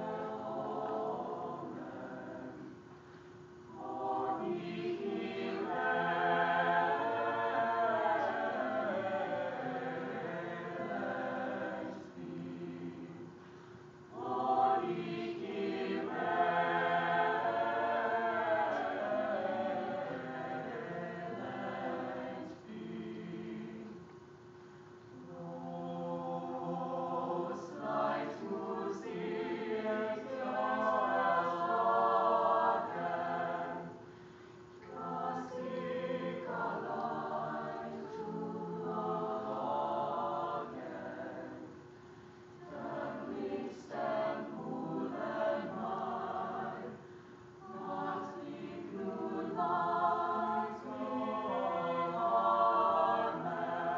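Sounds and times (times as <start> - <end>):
choir singing: 0.0 - 2.8, 3.7 - 13.4, 14.1 - 24.0, 25.2 - 34.1, 34.8 - 41.8, 42.6 - 47.0, 47.6 - 53.9.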